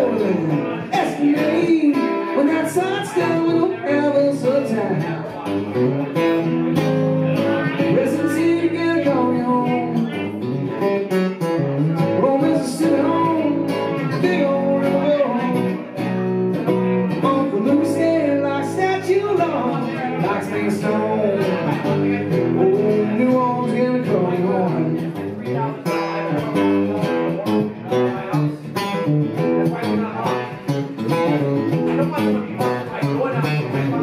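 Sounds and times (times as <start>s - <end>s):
solo electric guitar: 0.0s - 34.0s.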